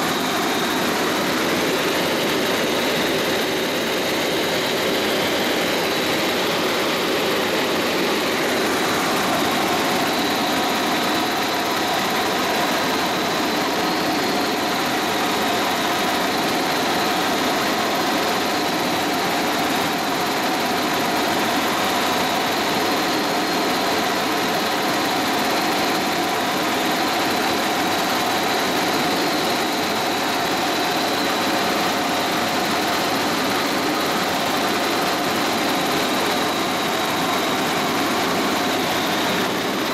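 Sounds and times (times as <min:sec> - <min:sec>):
constant high whine: 0:00.0 - 0:39.9
helicopter drone in cockpit: 0:00.0 - 0:39.9.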